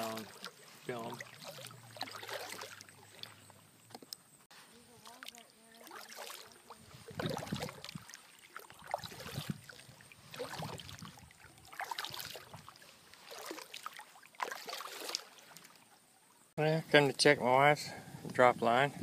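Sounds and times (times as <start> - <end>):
kayak paddle strokes splashing: 0.0 - 16.5.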